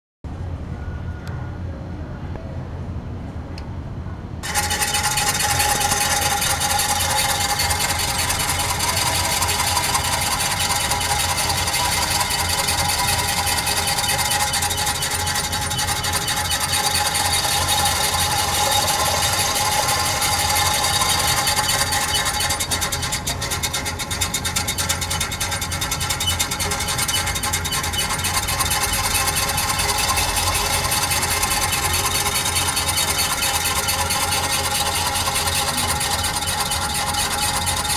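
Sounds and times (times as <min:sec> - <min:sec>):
electric motor gears whirring: 0:04.4 - 0:37.9.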